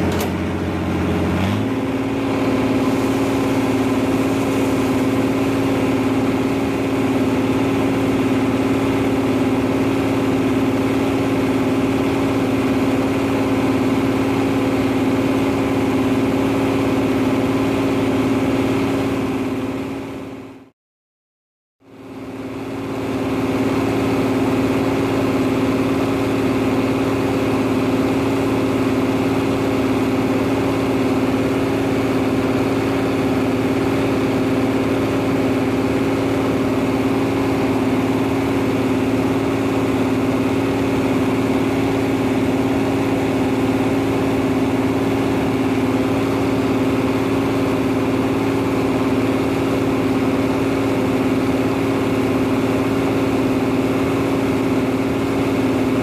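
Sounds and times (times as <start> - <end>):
combine harvester running: 0.0 - 20.7, 21.8 - 56.0.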